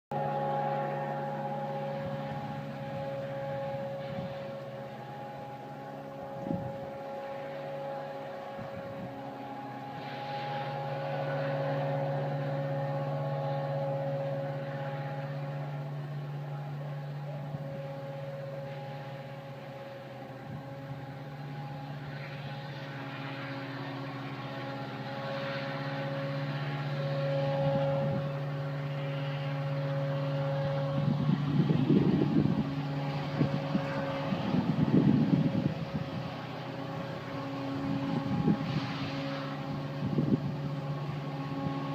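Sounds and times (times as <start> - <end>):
trumpet-like drone: 0.0 - 41.9.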